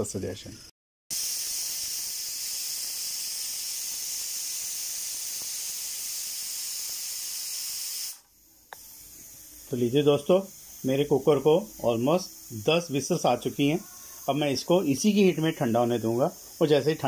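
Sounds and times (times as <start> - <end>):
pressure cooker whistling: 1.1 - 17.0.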